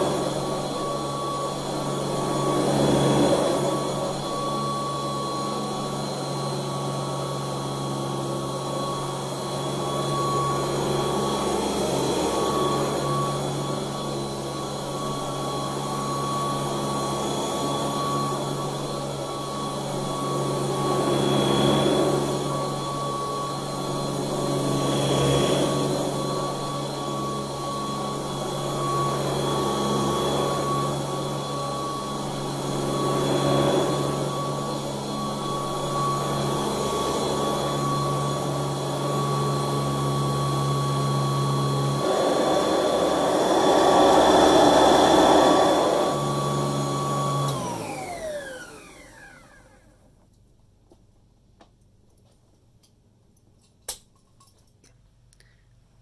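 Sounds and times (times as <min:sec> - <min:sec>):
vacuum cleaner humming on carpet: 0:00.0 - 0:50.2.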